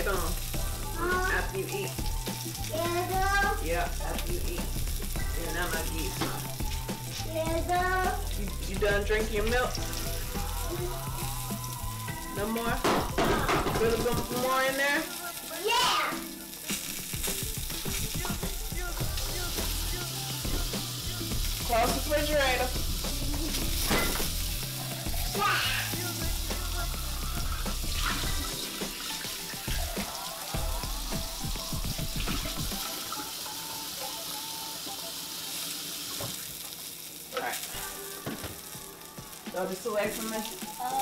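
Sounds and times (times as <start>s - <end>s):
sausage sizzling in a skillet: 0.0s - 41.0s.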